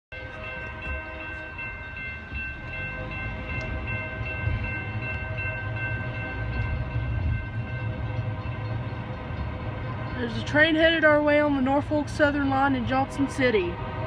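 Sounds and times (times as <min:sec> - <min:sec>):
distant locomotive horn: 0:00.1 - 0:14.0.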